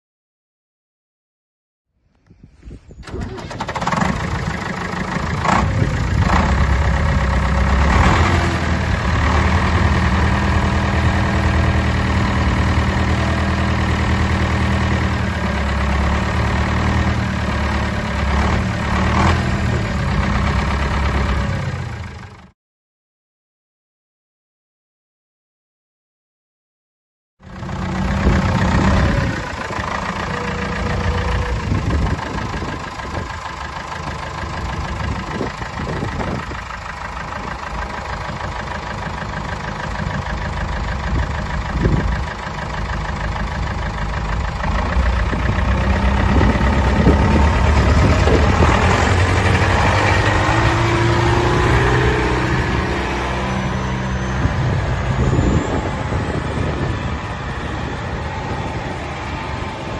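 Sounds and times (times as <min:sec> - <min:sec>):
tractor diesel engine running: 0:02.6 - 0:22.5, 0:27.4 - 0:59.9.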